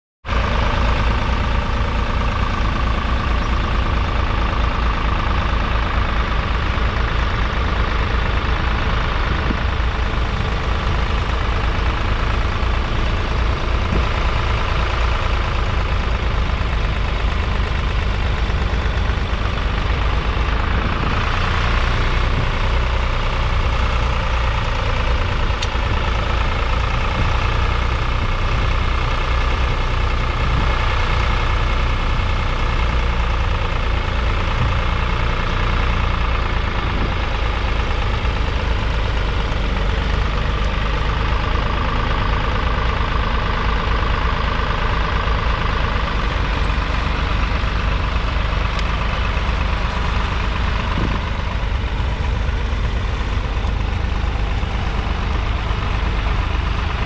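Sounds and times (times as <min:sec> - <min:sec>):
tractor diesel engine running: 0:00.2 - 0:57.0.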